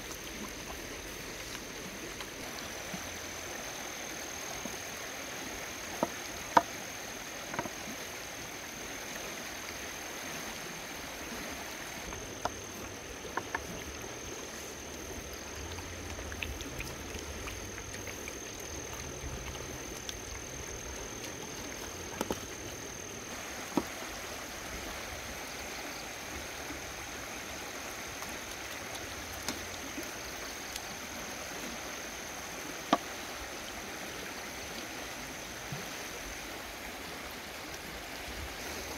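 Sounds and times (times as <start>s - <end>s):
outdoor hiss: 0.0s - 38.9s.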